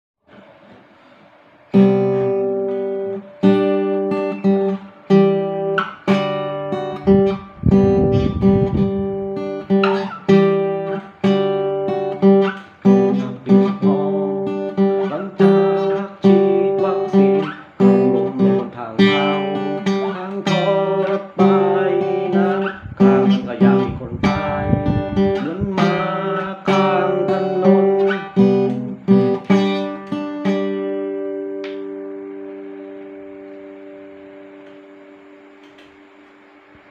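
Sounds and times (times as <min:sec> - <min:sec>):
acoustic guitar strummed: 0:00.3 - 0:36.9.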